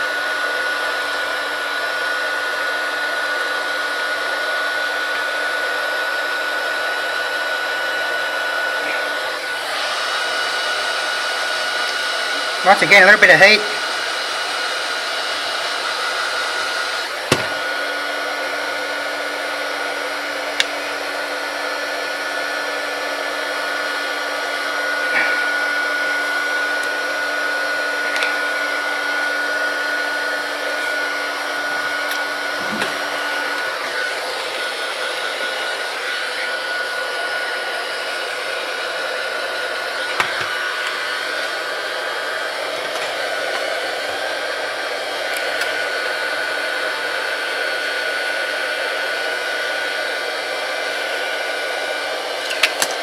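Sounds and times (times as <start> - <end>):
hot-air gun blowing: 0.0 - 53.0.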